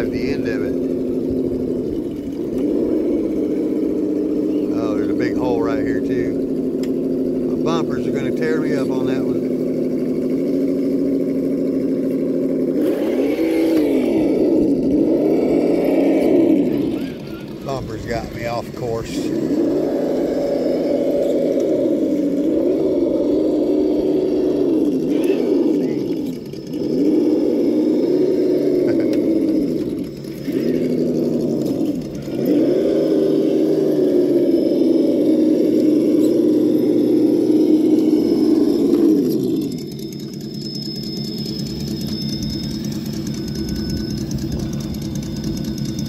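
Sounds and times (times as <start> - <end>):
electric motor and gears whining: 0.0 - 46.0.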